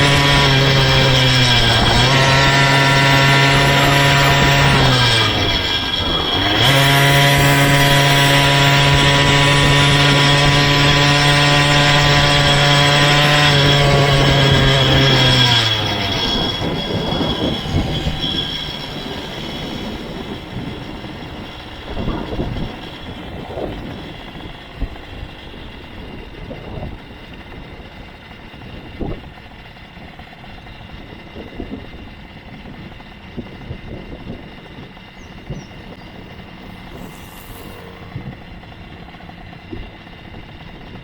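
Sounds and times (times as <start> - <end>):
rattling rumble with knocks: 0.0 - 37.1
motorized bicycle engine: 0.0 - 41.0.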